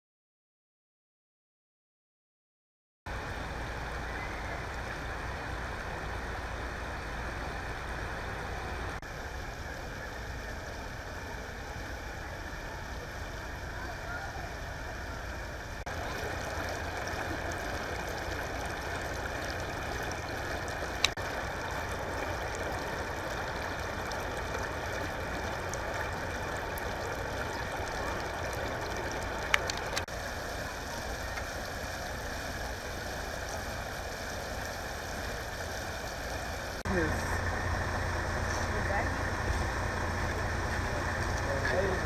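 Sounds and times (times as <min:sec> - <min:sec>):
water rushing through street: 0:03.1 - 0:42.0.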